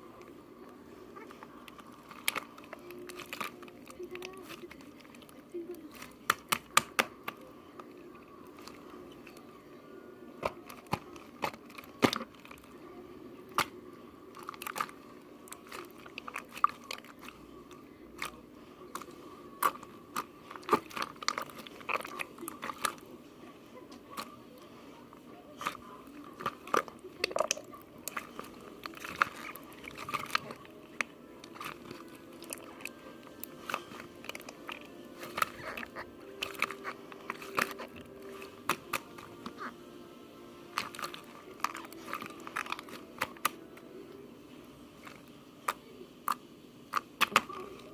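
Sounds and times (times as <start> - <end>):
faint steady hum: 0.0 - 47.9
crisp crunches and clicks: 1.2 - 9.6, 13.4 - 23.1, 23.9 - 39.8, 40.6 - 43.9, 44.9 - 47.9.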